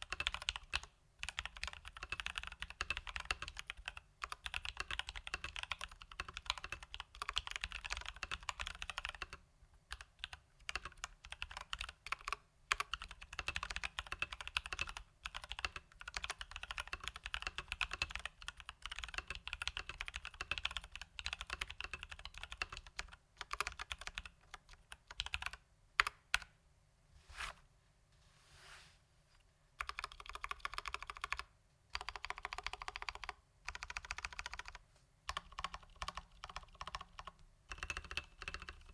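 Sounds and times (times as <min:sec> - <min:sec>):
mechanical keyboard typing: 0:00.0 - 0:26.5, 0:29.8 - 0:38.9.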